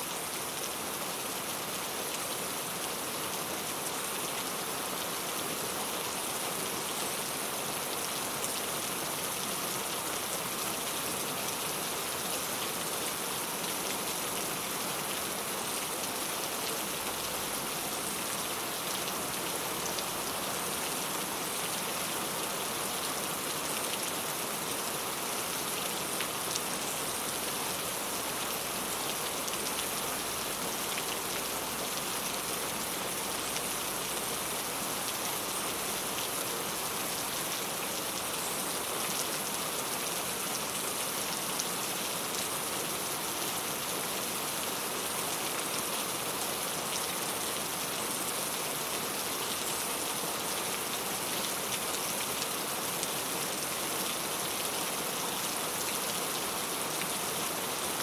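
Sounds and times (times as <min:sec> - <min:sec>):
rain on a tile roof: 0:00.0 - 0:58.0.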